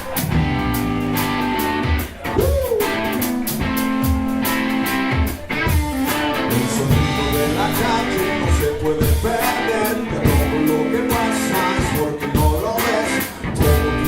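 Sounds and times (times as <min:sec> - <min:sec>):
drum hits: 0:00.0 - 0:13.0
bass guitar: 0:00.0 - 0:14.0
electric guitar chords: 0:00.0 - 0:14.0.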